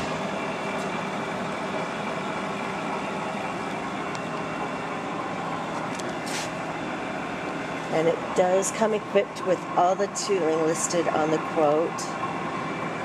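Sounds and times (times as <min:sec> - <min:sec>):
faint hum: 0:00.0 - 0:13.0
machinery drone: 0:00.0 - 0:13.0.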